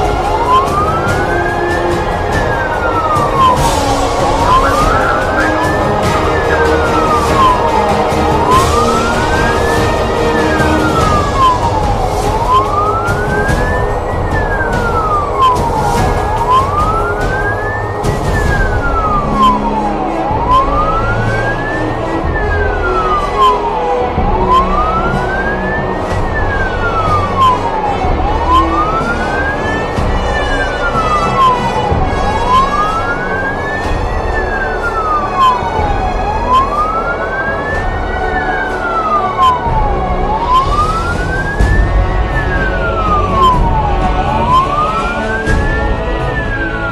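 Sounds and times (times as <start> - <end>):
fire engine siren wailing: 0.0 - 46.9
vehicle engine and road noise: 0.0 - 46.9.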